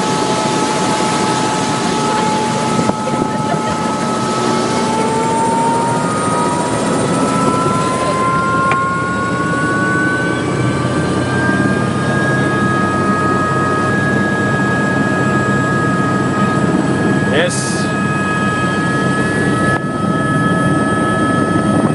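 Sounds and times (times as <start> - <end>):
helicopter running: 0.0 - 21.9
rising whine: 0.0 - 21.9.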